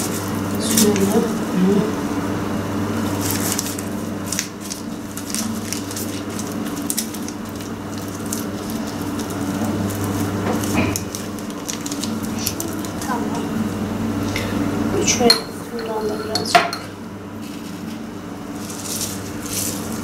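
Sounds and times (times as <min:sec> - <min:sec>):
dough squishing: 0:00.0 - 0:02.1, 0:02.7 - 0:14.5, 0:17.4 - 0:20.0
baking paper crackling: 0:00.0 - 0:02.2, 0:02.8 - 0:15.2, 0:17.4 - 0:20.0
steady low hum: 0:00.0 - 0:20.0.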